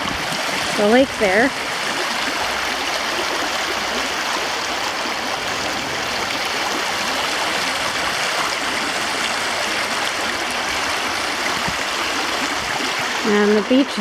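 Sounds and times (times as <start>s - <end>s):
brook water rushing: 0.0s - 14.0s.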